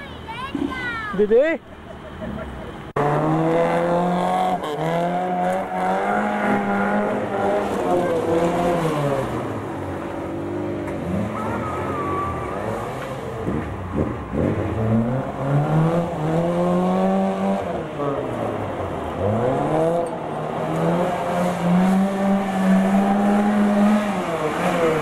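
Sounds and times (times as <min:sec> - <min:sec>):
rally car engine revving: 0:02.1 - 0:25.0.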